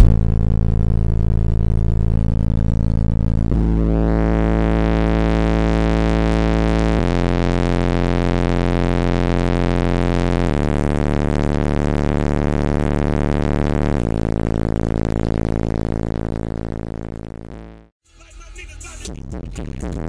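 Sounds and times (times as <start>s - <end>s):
loud bass test tone: 0.0s - 18.0s.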